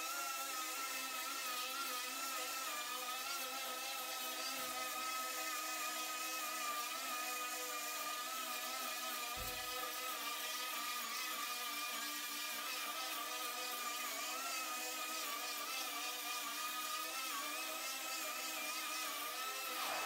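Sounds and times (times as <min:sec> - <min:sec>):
pneumatic grinder whining: 0:00.0 - 0:20.0.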